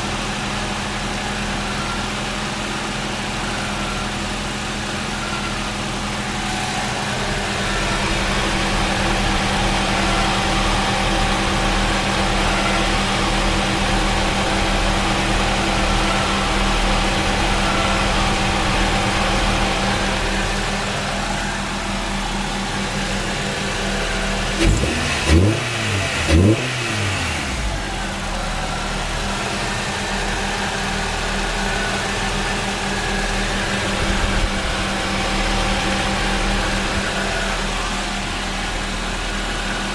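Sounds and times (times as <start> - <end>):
car engine idling: 0.0 - 39.9
engine revving: 6.1 - 39.9.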